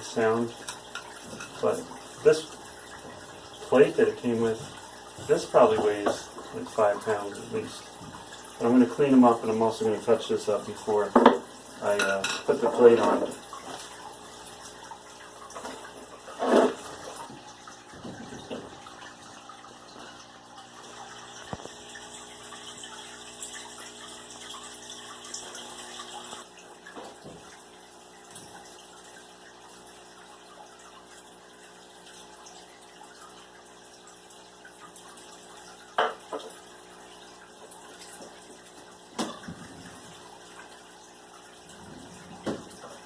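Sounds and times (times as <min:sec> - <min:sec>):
tap water running into sink: 0:00.0 - 0:43.0.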